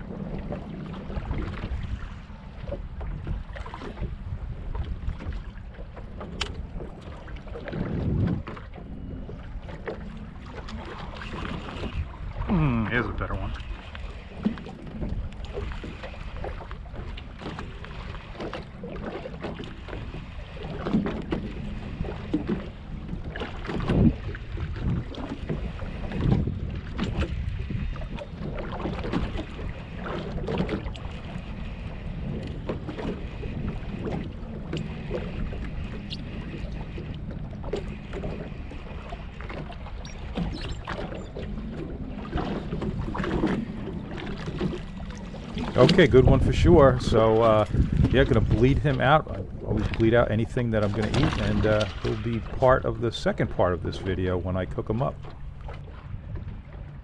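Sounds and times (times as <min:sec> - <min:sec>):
water splashes: 0:00.0 - 0:57.0
waves slapping against hull: 0:00.0 - 0:57.0
wind buffeting microphone: 0:00.0 - 0:57.0.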